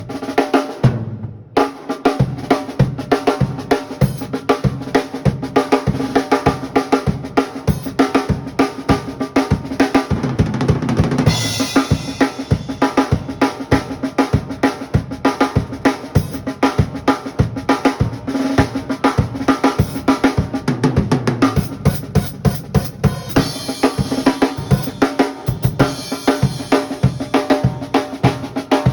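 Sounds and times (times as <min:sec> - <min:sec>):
drum kit beat: 0:00.0 - 0:28.9.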